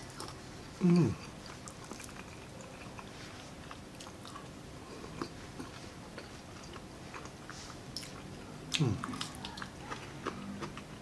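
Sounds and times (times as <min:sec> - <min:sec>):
close chewing: 0:00.0 - 0:11.0.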